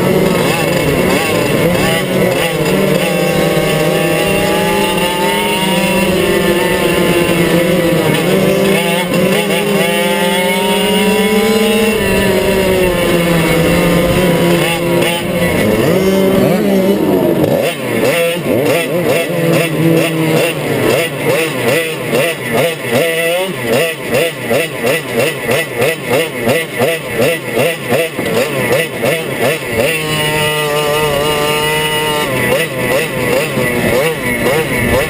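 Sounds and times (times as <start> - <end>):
kart engine revving: 0.0 - 35.0
other kart engines: 0.0 - 35.0.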